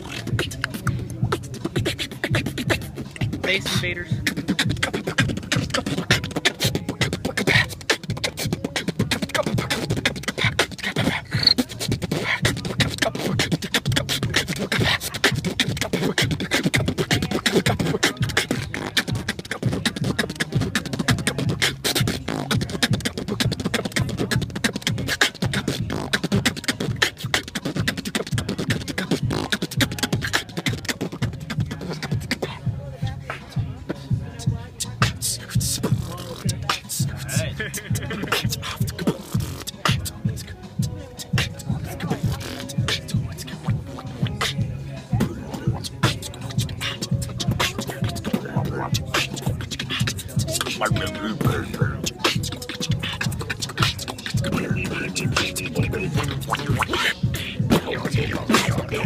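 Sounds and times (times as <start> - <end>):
person beatboxing: 0.0 - 59.0.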